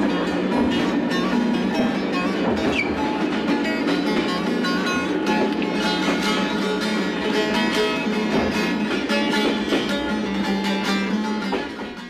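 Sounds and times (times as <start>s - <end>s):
plucked long-necked lute melody: 0.0s - 12.0s.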